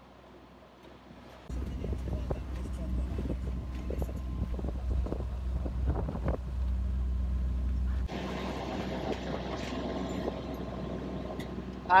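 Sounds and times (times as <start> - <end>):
boat engine droning: 0.0 - 12.0
wind and water noise: 0.0 - 12.0.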